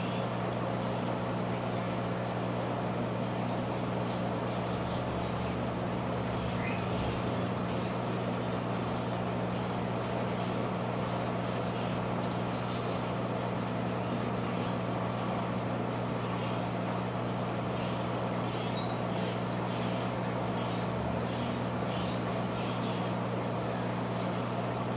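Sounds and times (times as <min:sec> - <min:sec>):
aquarium equipment humming: 0:00.0 - 0:24.9.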